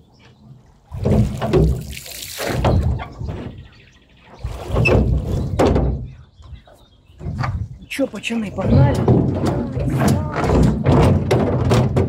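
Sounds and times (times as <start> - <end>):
water sloshing around a rowboat: 0.0 - 12.0.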